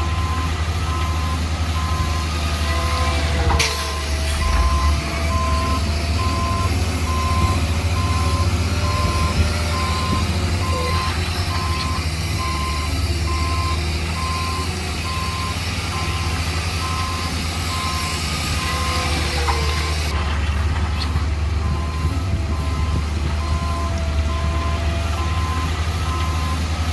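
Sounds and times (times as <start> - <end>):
reversing alarm beeping: 0.0 - 20.1, 21.6 - 26.6
vehicle engine low rumble: 0.0 - 26.9.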